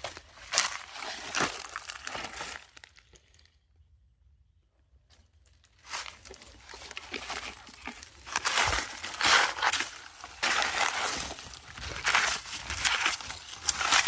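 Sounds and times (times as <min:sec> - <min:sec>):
dry leaves rustling and crunching: 0:00.0 - 0:03.4, 0:05.4 - 0:14.0.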